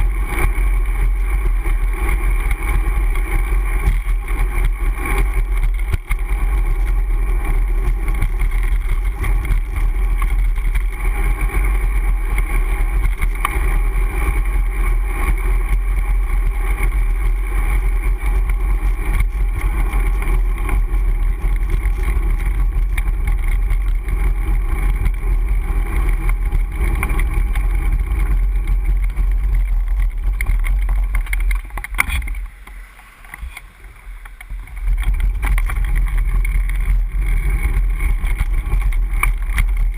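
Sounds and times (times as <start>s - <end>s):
faint steady hum: 0.0s - 39.9s
road rumble: 0.0s - 39.9s
wind noise while cycling: 0.0s - 39.9s.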